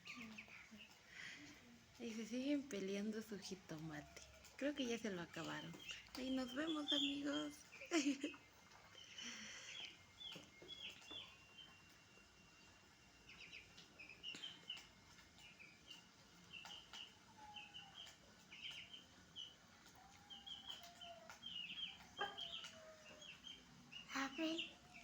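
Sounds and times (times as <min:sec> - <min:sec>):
baby chicks peeping: 0:00.0 - 0:02.8, 0:03.4 - 0:25.0.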